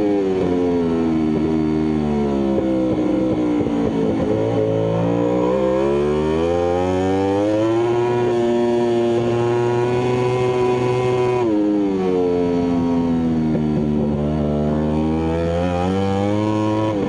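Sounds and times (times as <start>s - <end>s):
motorcycle engine at racing speed: 0.0s - 17.0s.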